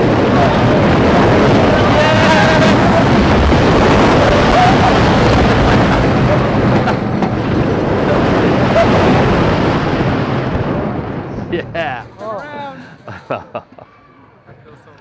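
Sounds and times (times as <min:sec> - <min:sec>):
wind rushing over microphone: 0:00.0 - 0:12.2
roller coaster rumbling on track: 0:00.0 - 0:13.8.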